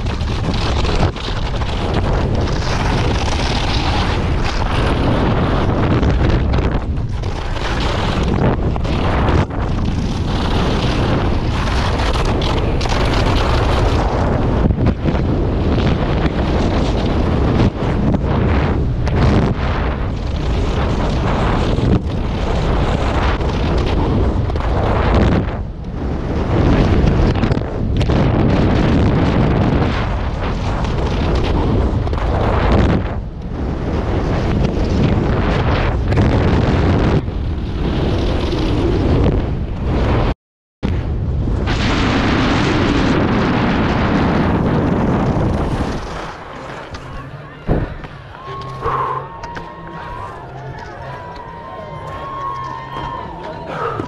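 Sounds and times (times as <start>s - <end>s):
skis running on hard snow: 0.0s - 40.3s, 43.9s - 47.3s
heavy wind buffeting microphone: 0.0s - 54.0s.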